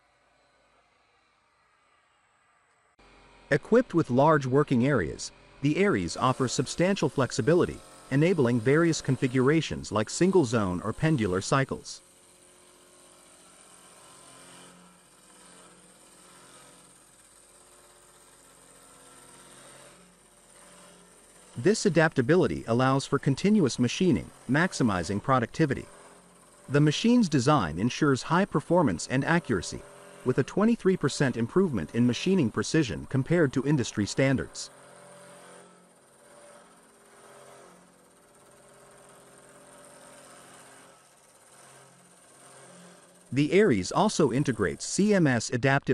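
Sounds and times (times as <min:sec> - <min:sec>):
machine mechanical hum: 0:00.0 - 0:45.6.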